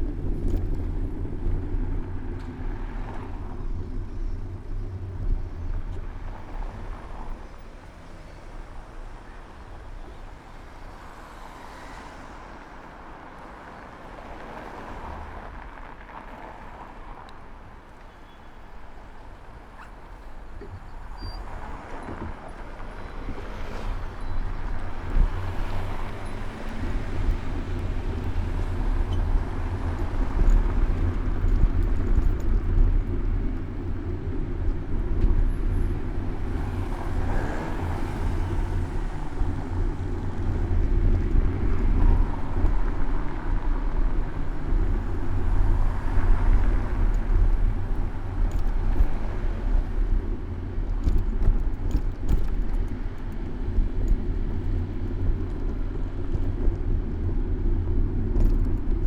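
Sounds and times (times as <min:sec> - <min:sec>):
low wind rumble on microphone: 0:00.0 - 0:11.6, 0:12.4 - 0:59.0
cars passing: 0:00.0 - 0:18.0, 0:18.6 - 0:59.0.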